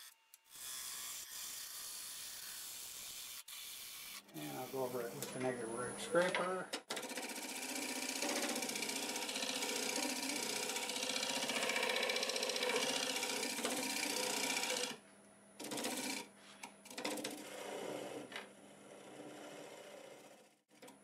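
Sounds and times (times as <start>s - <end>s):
lathe scraper scraping wood: 0.0s - 5.5s, 6.8s - 15.0s, 15.6s - 20.9s.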